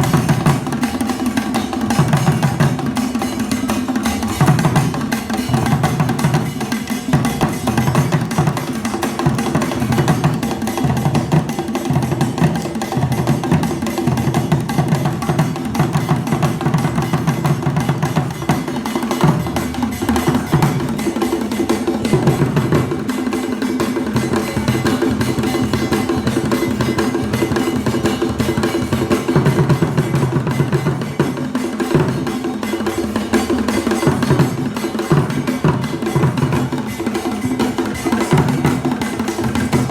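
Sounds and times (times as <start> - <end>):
drum ensemble playing: 0.0 - 39.9.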